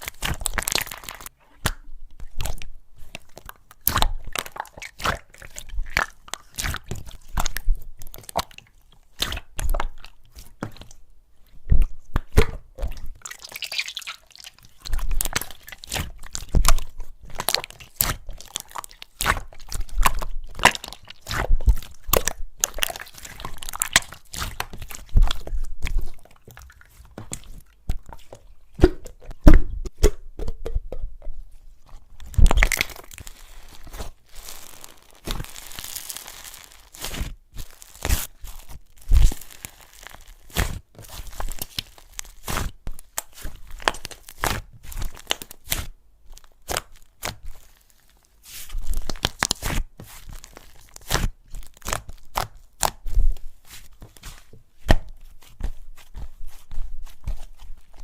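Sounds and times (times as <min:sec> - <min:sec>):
hands squishing slime: 0:00.0 - 0:58.0.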